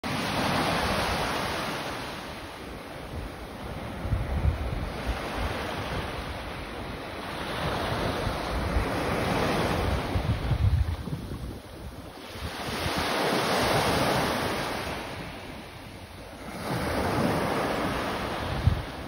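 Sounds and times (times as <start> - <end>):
small waves washing on sand: 0.0 - 19.0
wind buffeting microphone: 2.4 - 19.0.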